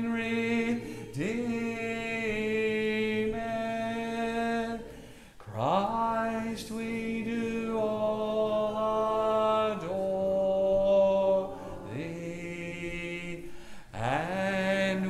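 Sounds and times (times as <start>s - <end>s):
man singing a cappella hymn: 0.0s - 15.0s.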